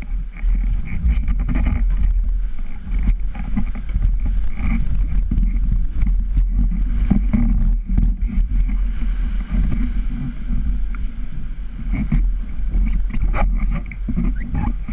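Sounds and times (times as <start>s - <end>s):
small boat on water: 0.0s - 14.9s
wind buffeting microphone: 0.0s - 14.9s.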